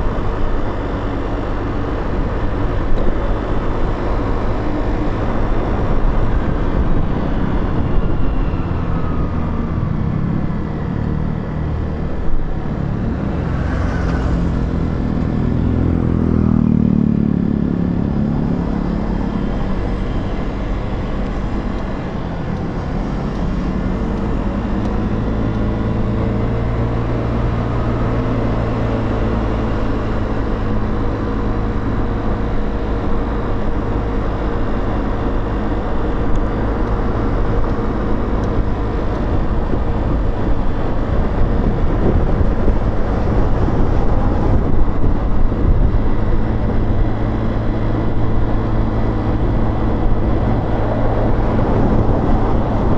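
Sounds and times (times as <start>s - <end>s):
road noise: 0.0s - 52.9s
wind noise: 0.0s - 52.9s.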